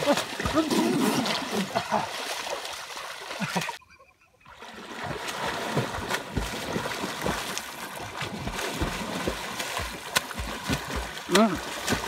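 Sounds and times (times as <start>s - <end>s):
swimmer splashing water: 0.0s - 3.8s, 4.5s - 12.0s.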